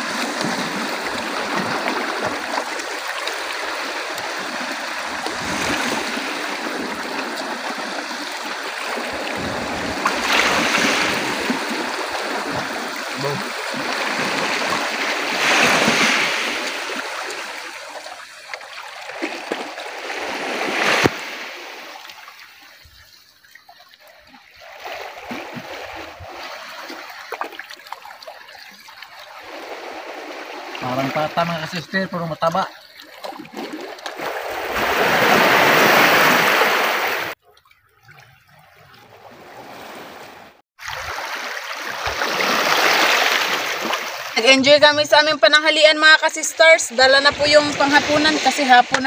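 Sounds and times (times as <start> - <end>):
waves splashing over rocks: 0.0 - 22.9, 24.8 - 37.4, 39.6 - 49.0.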